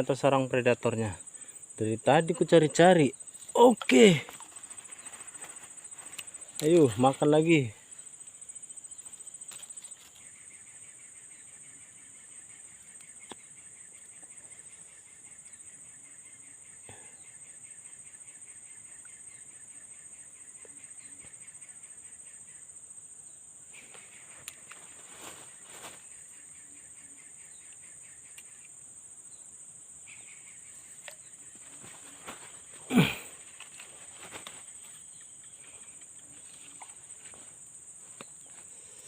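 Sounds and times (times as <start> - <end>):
fast pulsing insect trill: 0.0 - 39.0
insect chorus drone: 0.0 - 39.0.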